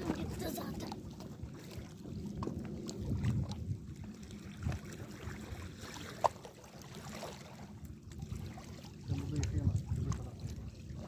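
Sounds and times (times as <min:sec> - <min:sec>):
water at the shore: 0:00.0 - 0:11.0
wind rumble on microphone: 0:00.0 - 0:11.0.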